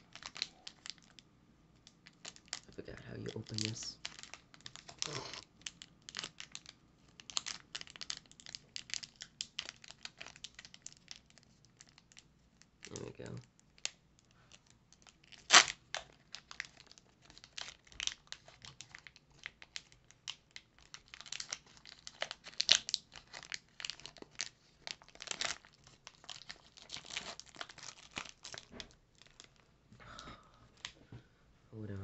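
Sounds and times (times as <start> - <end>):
foil wrapper crinkling and tearing: 0.0 - 1.2, 1.8 - 29.7.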